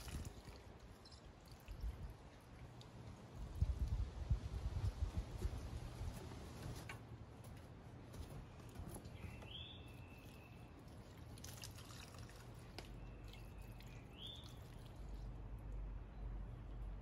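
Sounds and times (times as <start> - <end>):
soil and plants rustling: 0.0 - 15.8.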